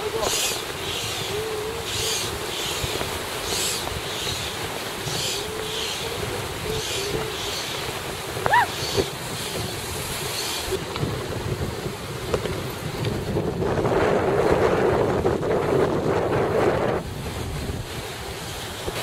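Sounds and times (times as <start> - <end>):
surf washing: 0.0 - 19.0
wind buffeting microphone: 0.0 - 19.0.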